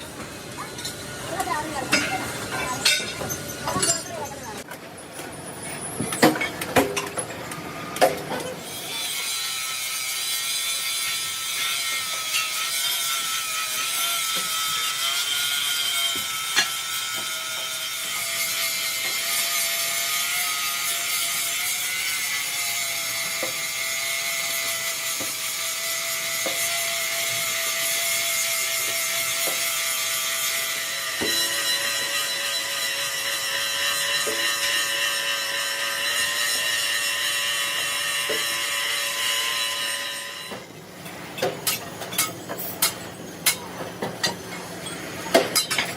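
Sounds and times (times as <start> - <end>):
metalworking machine whine: 0.0 - 45.9.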